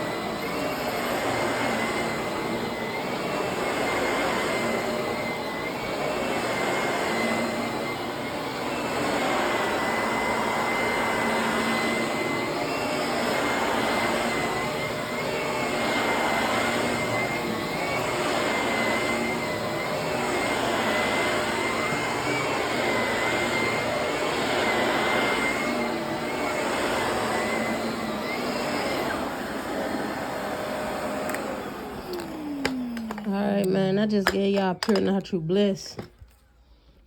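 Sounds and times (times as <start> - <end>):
vacuum cleaner motor whine: 0.0 - 36.1.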